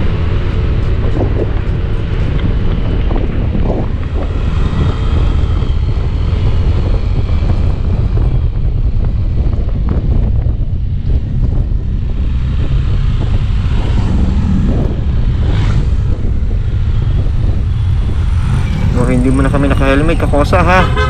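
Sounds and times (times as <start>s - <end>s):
heavy wind on microphone: 0.0s - 21.0s.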